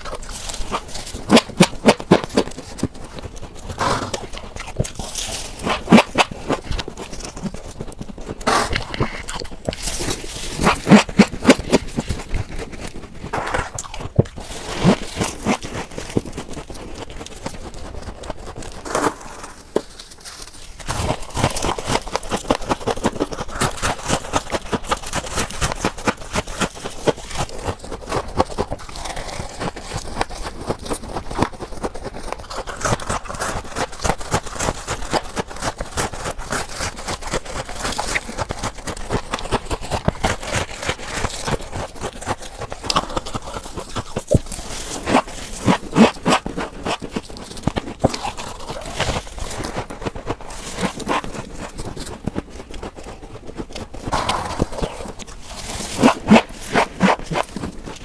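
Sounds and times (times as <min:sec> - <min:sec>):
freezer frost ice being scraped: 0:00.0 - 0:58.0.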